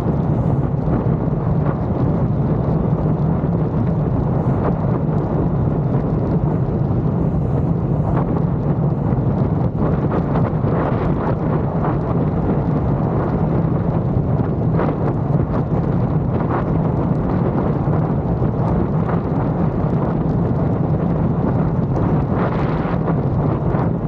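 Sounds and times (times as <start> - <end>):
wind rush on microphone: 0.0 - 24.0.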